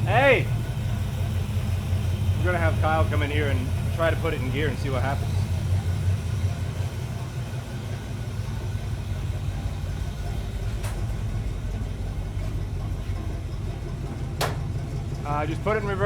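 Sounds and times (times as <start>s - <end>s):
car engine idling with misfire: 0.0s - 16.0s.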